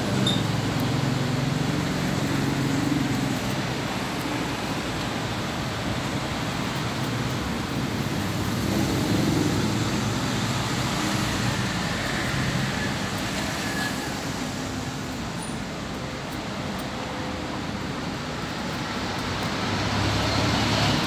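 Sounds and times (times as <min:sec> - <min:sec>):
road traffic rumble and hiss: 0:00.0 - 0:21.0.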